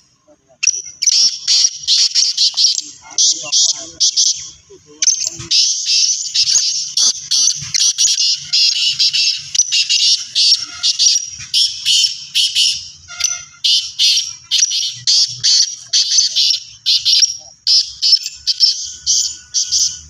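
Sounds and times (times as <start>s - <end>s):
birds calling harshly: 0.0s - 20.0s.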